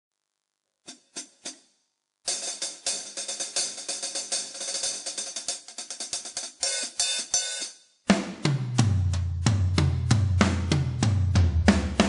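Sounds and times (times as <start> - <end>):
hi-hat and cymbal strokes: 0.9 - 1.7, 2.3 - 12.0.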